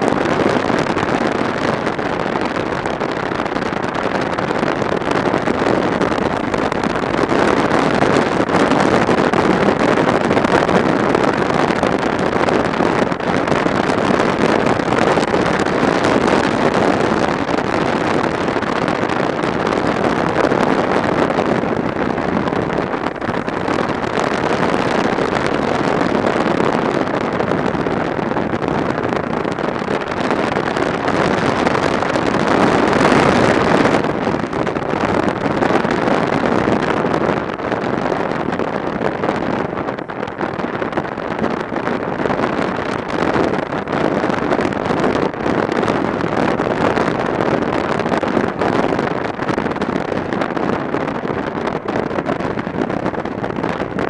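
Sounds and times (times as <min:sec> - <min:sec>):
road noise: 0:00.0 - 0:54.0
wind rushing over microphone: 0:00.0 - 0:54.0.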